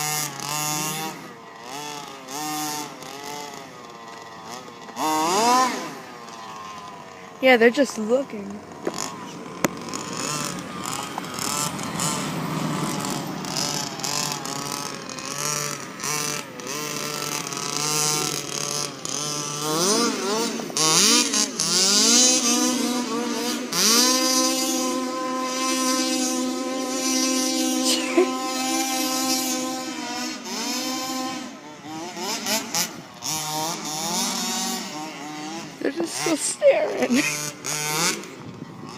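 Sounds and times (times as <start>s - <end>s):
small engine revving: 0.0s - 38.9s.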